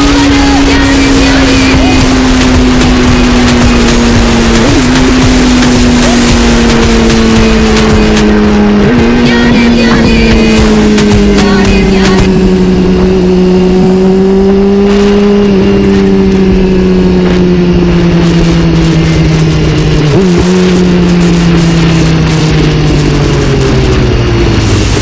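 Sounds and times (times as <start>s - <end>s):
engine droning: 0.0s - 25.0s.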